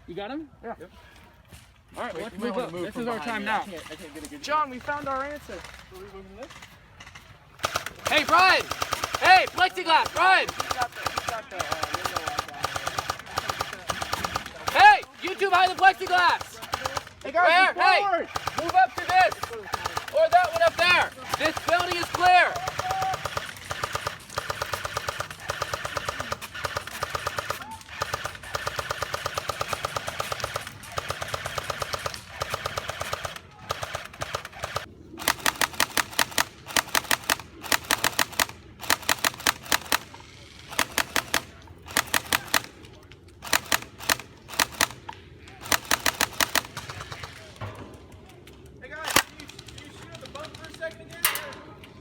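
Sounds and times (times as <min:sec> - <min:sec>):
airsoft guns firing full-auto: 0:07.6 - 0:47.8, 0:49.0 - 0:51.5.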